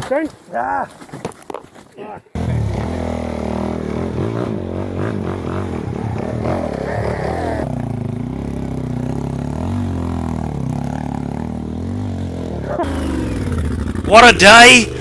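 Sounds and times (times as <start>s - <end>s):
motorcycle engine running: 2.4s - 15.0s.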